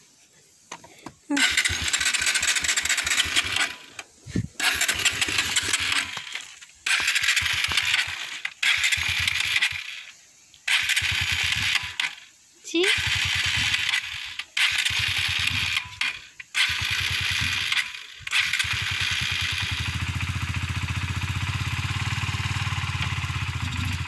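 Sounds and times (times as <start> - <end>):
motorcycle engine cranking: 0.8 - 12.3, 12.9 - 24.0.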